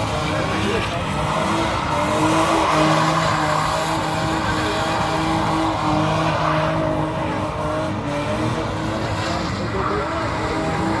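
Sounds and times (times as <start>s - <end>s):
car engine revving: 0.0s - 11.0s
tyres squealing on asphalt: 0.0s - 11.0s.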